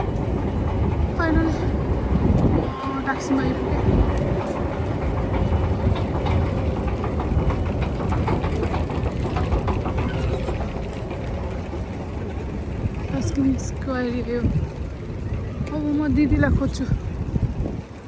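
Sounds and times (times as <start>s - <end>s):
traffic rumble and city bustle: 0.0s - 18.0s.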